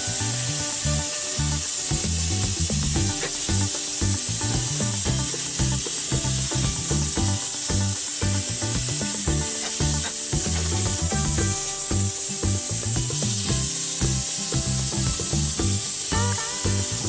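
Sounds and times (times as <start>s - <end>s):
background music with bass line: 0.0s - 17.0s
steady high hiss: 0.0s - 17.0s.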